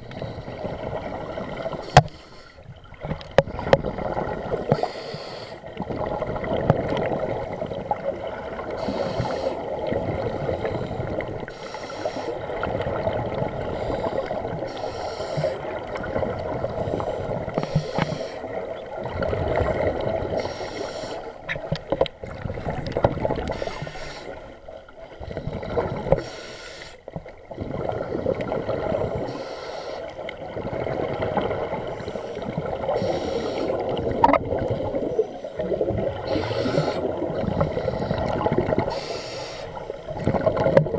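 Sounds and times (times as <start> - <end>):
muffled underwater water rush: 0.0 - 40.9.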